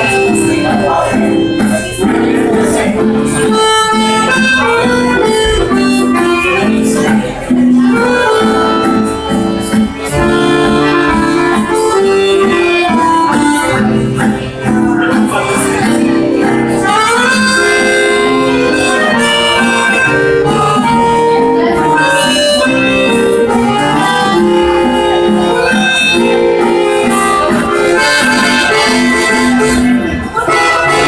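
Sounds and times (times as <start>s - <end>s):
loud live band playing: 0.0s - 31.0s.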